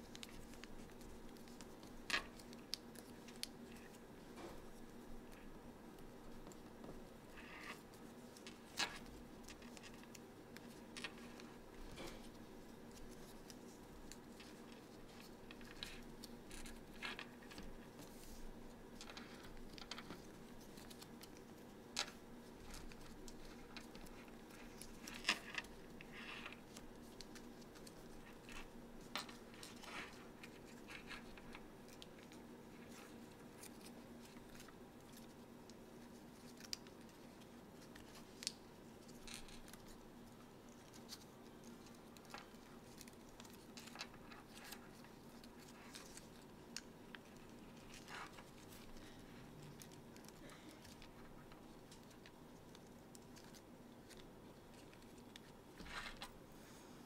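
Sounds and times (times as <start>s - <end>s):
paper being folded: 0.0s - 4.0s, 4.6s - 56.4s.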